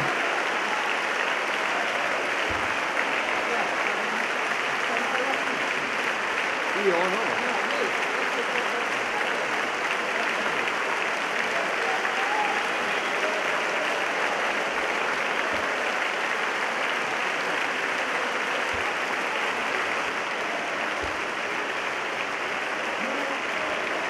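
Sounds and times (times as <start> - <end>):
large crowd applauding: 0.0 - 24.0.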